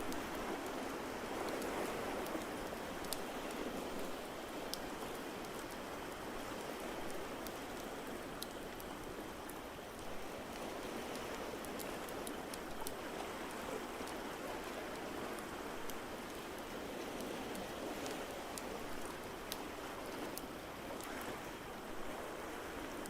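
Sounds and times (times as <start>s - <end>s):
rushing water: 0.0s - 23.0s.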